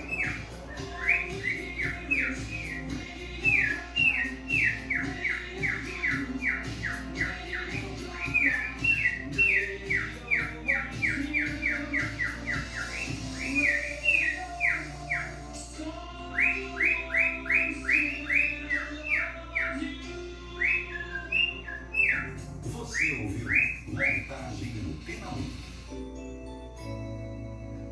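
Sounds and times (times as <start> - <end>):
cockatiel whistling: 0.0 - 25.9
background music: 0.0 - 27.9.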